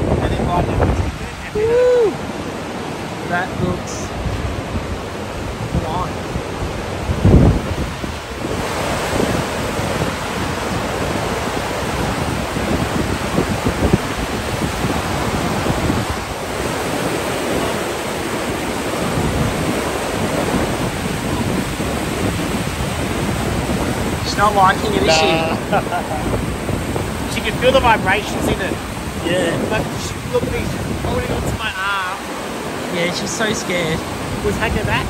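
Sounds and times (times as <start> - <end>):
floodwater rushing through weir: 0.0 - 35.0
wind buffeting microphone: 0.0 - 35.0.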